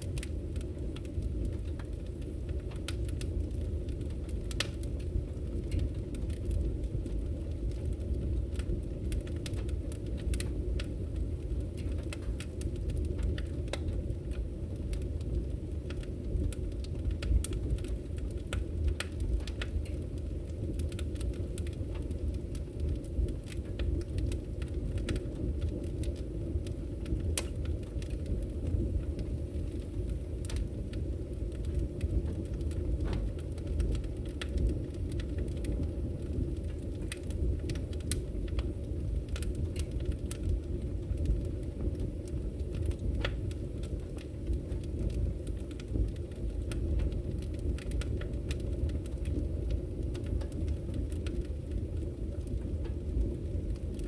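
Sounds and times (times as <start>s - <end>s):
fire crackling and popping: 0.0s - 54.0s
fire rumbling: 0.0s - 54.0s.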